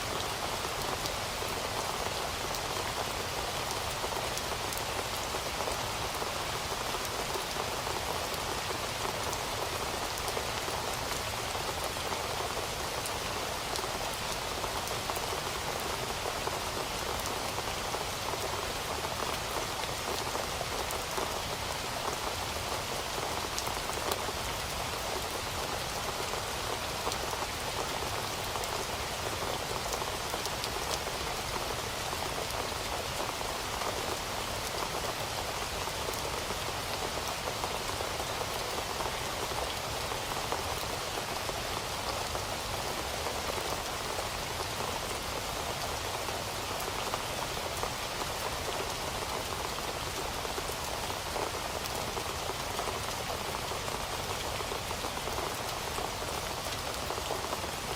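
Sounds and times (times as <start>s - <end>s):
heavy rain on hard surface: 0.0s - 57.9s.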